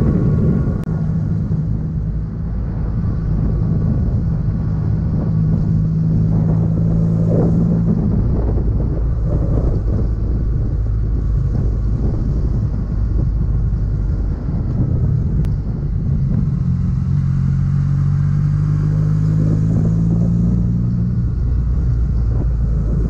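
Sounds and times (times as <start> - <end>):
motorcycle engine running: 0.0 - 23.0
wind noise on microphone: 0.0 - 23.0.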